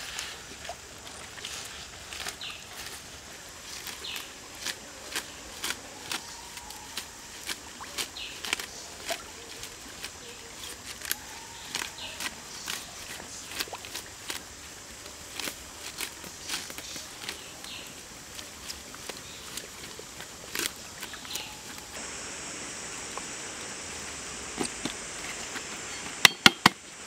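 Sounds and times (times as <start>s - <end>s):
leafy rustling: 0.0s - 27.0s.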